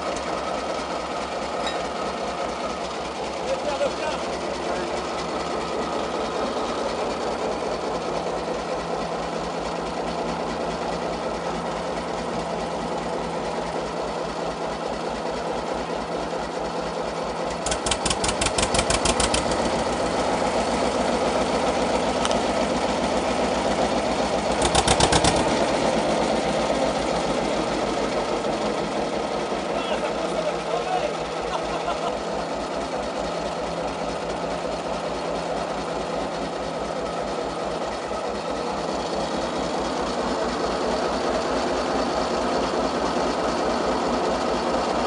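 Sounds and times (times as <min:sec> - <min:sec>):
diesel engine knocking idle: 0:00.0 - 0:45.0.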